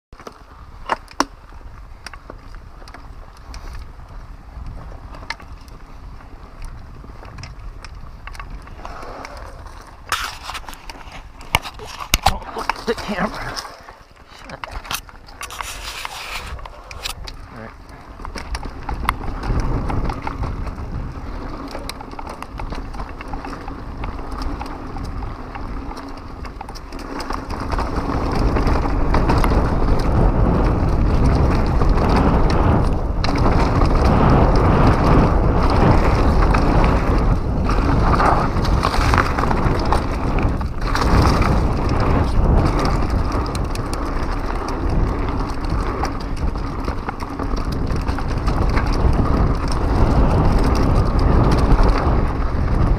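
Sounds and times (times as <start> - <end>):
bike clattering and rattling: 0.2 - 52.9
tyres crunching over dirt: 0.2 - 52.9
wind on microphone: 1.4 - 52.9.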